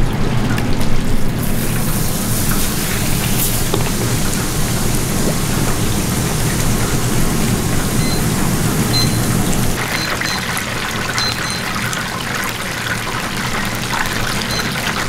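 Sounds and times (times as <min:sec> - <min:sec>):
oil sizzling in deep fryer: 0:00.5 - 0:15.0.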